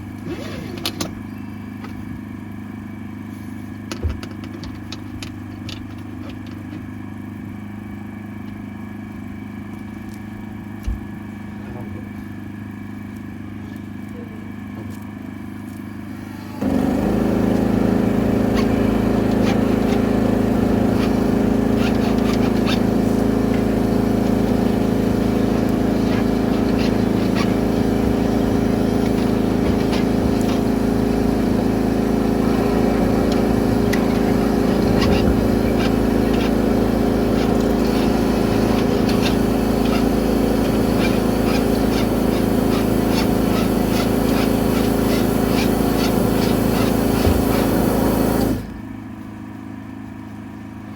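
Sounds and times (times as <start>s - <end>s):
pressure washer engine running: 0.0s - 9.7s, 10.6s - 50.9s.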